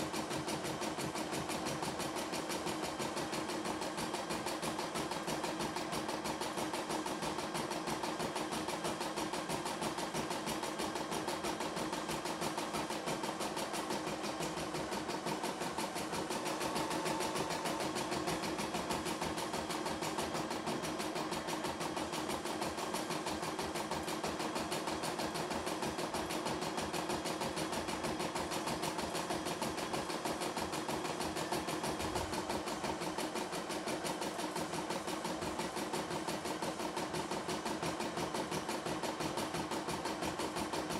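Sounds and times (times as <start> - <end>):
embroidery machine stitching: 0.0 - 40.9.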